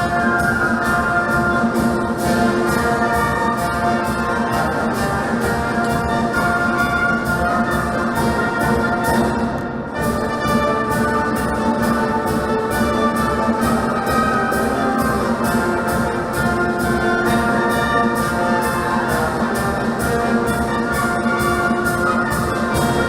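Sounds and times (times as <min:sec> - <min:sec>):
brass band playing a march: 0:00.0 - 0:23.0
steady drum beat: 0:00.0 - 0:23.0.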